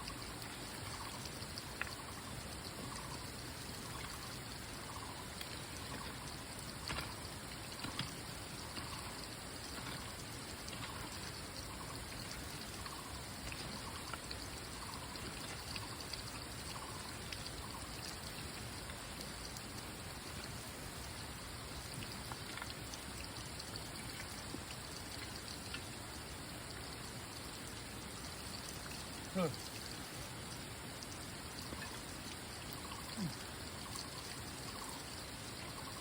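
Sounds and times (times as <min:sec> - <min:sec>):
small water drips: 0:00.0 - 0:36.0
water pattering: 0:00.0 - 0:36.0.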